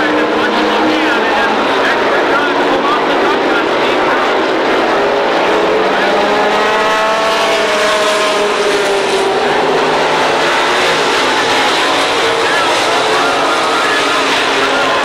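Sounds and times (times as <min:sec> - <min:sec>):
stock car engines racing: 0:00.0 - 0:15.0.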